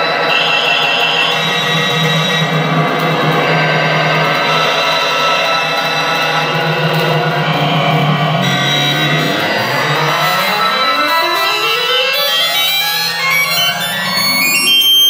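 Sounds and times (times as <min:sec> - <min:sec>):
layered electronic tones: 0:00.0 - 0:15.0
low electronic drone: 0:00.0 - 0:15.0.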